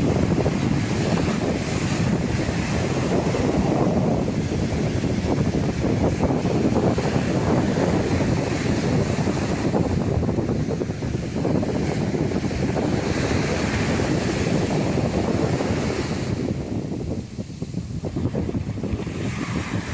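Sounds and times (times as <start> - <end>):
sea surf washing onto beach: 0.0 - 19.9
wind buffeting microphone: 0.0 - 19.9.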